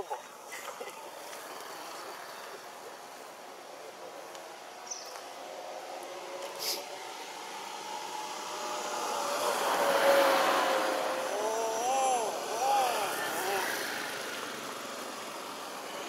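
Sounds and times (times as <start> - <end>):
passing vehicle engine hum: 0.4 - 16.0.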